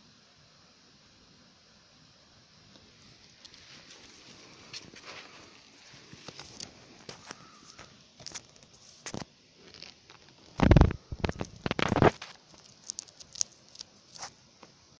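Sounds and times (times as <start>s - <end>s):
light clicks and crackles: 2.7s - 14.8s.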